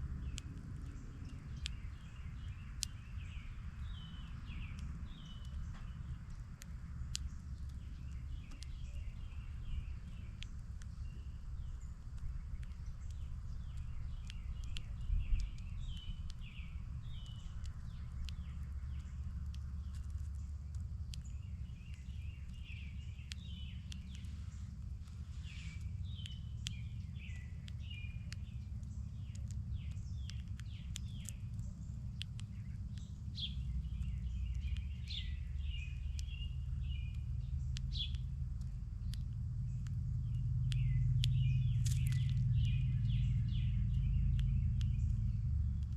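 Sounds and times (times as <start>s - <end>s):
songbirds chirping: 0.0s - 45.9s
steady low rumble: 0.0s - 45.9s.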